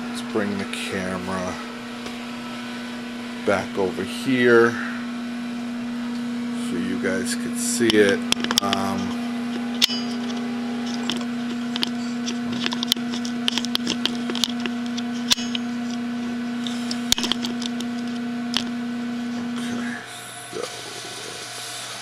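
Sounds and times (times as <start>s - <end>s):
printer mechanical hum: 0.0s - 22.0s.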